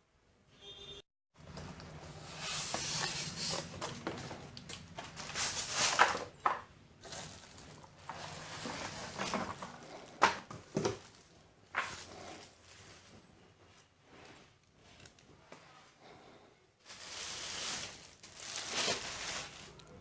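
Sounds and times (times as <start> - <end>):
rustling of packaging: 2.1 - 15.3, 16.8 - 20.0.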